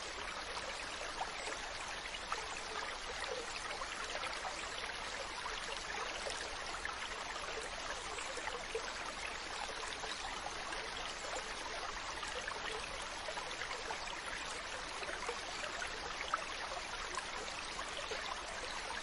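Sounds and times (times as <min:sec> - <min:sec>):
stream water running: 0:00.0 - 0:19.0.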